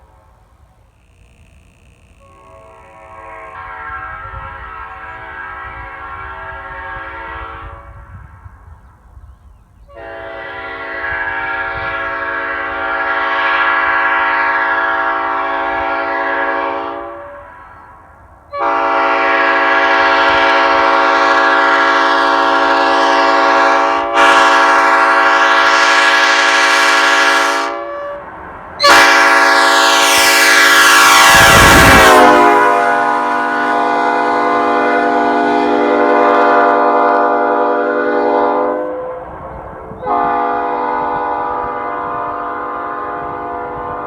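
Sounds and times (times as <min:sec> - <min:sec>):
train horn chord blasts: 0:01.0 - 0:08.6, 0:09.9 - 0:44.0.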